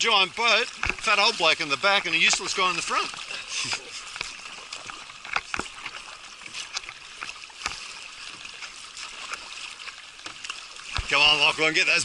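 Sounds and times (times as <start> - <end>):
short splashes: 0.0 - 12.0
water lapping around kayak: 0.0 - 12.0.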